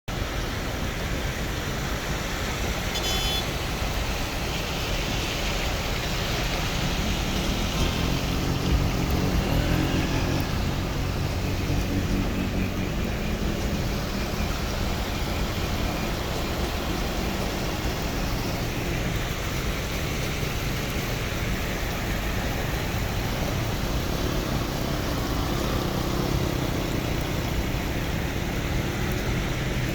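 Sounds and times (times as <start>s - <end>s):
floodwater rushing: 0.1s - 29.9s
vehicle engine hum: 0.1s - 29.9s.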